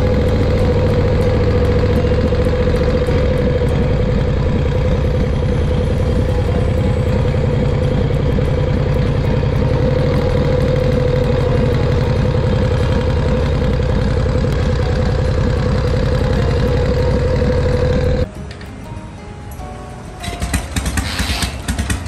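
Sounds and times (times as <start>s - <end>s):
motorcycle engine running: 0.0s - 18.3s, 20.2s - 22.0s.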